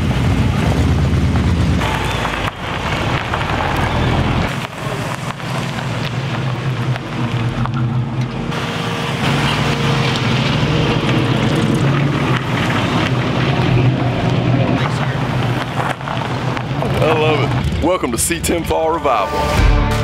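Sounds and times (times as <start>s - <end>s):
tyres rolling on gravel: 0.0s - 19.3s
pickup truck engines running: 0.0s - 20.0s.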